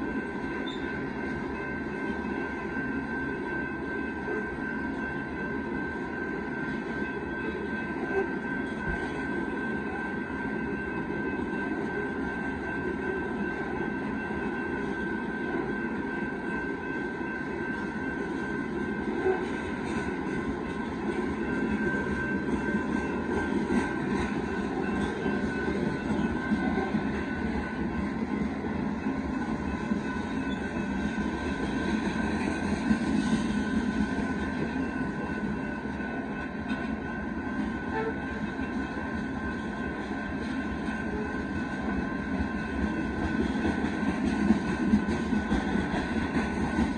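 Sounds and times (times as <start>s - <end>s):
freight train wheels rumbling: 0.0s - 46.9s
steady high tone: 0.0s - 46.9s.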